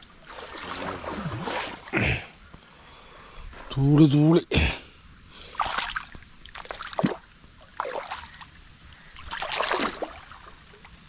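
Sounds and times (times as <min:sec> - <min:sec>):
water splashing and sloshing: 0:00.0 - 0:03.8, 0:05.3 - 0:11.0.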